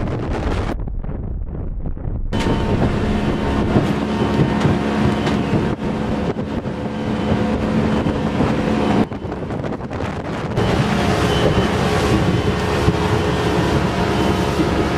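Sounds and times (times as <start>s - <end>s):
motorboat engine running: 0.0s - 14.9s
water rushing along hull: 2.4s - 14.9s.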